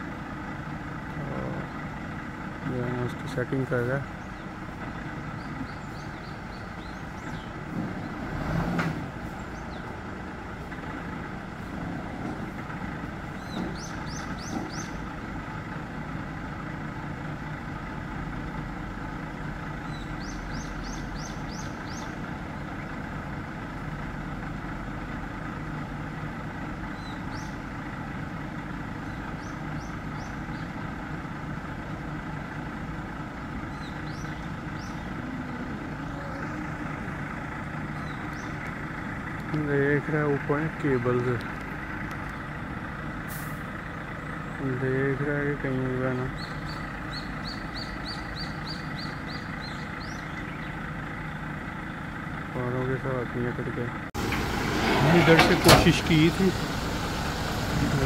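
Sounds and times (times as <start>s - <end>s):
truck engine idling: 0.0s - 8.4s, 9.0s - 58.0s.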